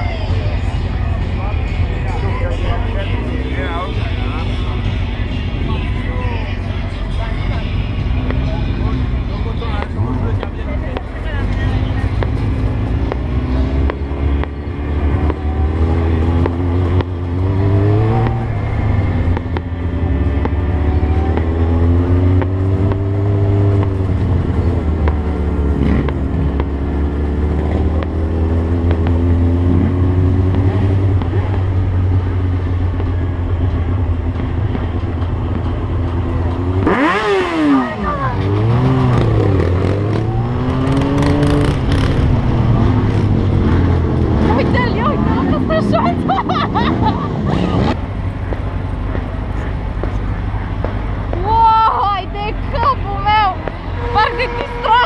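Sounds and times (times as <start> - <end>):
motorcycle engine revving: 0.0 - 51.4.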